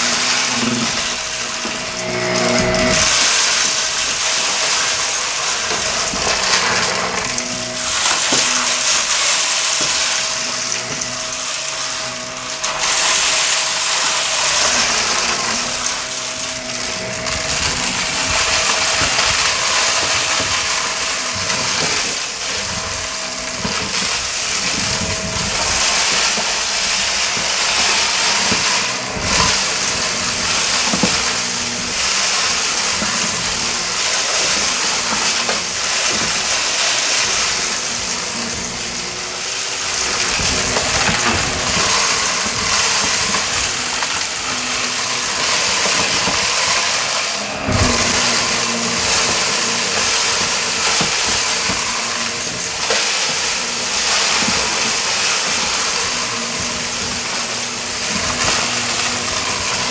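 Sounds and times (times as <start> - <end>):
grit crackling: 0.0 - 59.9
vacuum cleaner running on carpet: 0.0 - 59.9.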